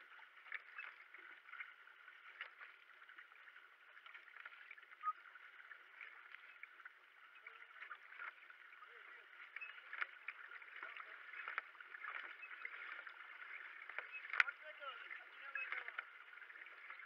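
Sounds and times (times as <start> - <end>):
paddle strokes splashing: 0.0 - 17.0
water washing along hull: 0.0 - 17.0.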